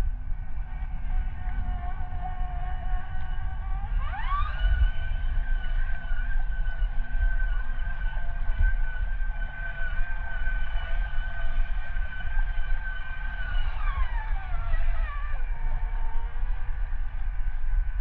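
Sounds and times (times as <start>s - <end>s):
electric motor whine: 0.0s - 18.0s
low rumble: 0.0s - 18.0s.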